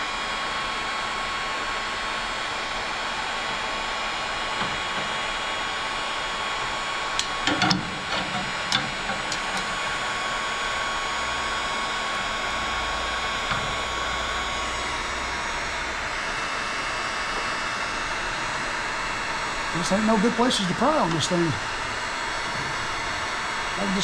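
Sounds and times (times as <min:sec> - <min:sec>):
heat gun running: 0:00.0 - 0:24.0.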